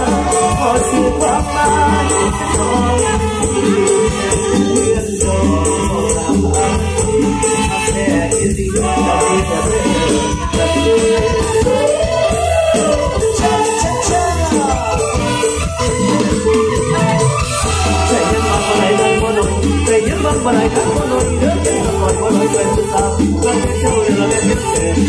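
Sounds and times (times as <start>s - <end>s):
live band music with bass beat: 0.0s - 25.0s.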